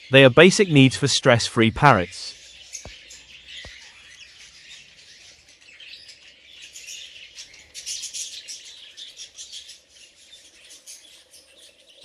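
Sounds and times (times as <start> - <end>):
flock of parrots chirping: 2.3 - 12.0.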